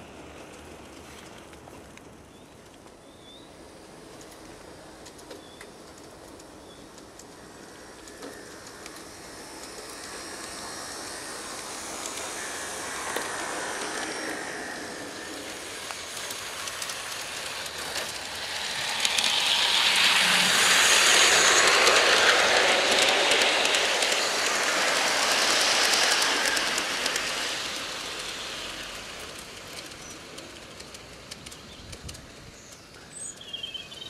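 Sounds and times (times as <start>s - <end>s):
model train wheels rumbling: 0.0s - 34.0s.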